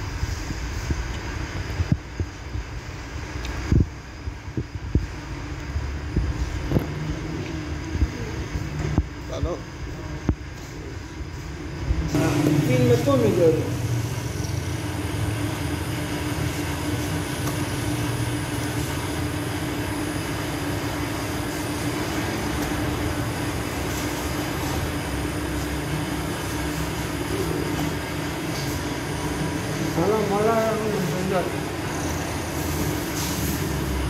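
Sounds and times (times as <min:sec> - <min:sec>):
oven low rumble and hum: 0:00.0 - 0:34.0.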